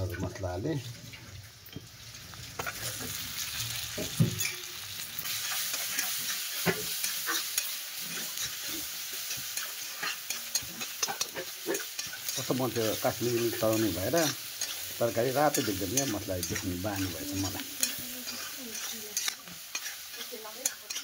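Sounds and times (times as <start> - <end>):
onions frying and sizzling in a wok: 0.0 - 21.0
steel spatula scraping a pan: 2.6 - 21.0.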